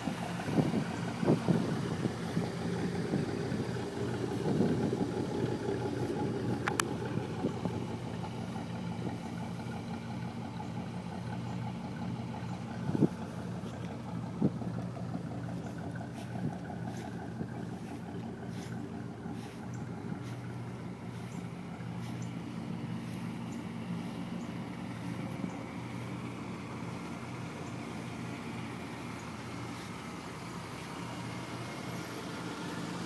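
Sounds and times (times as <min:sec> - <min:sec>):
pickup truck engine idling: 0:00.0 - 0:33.0.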